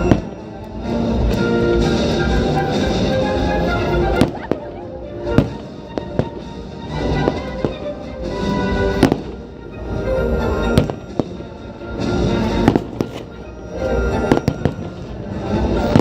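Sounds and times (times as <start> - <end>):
fireworks bangs and cracks: 0.0 - 9.6, 10.6 - 13.3, 14.2 - 16.0.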